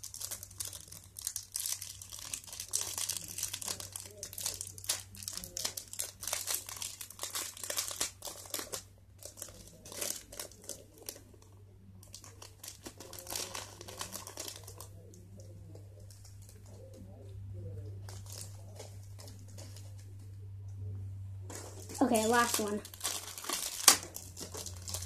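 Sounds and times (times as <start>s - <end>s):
plastic packets crinkling: 0.0s - 17.1s, 17.7s - 20.4s, 21.5s - 25.0s
low steady hum: 0.0s - 25.0s.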